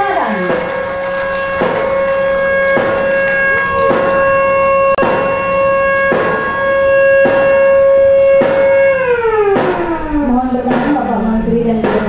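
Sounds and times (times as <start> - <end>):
siren steady tone: 0.0 - 12.0.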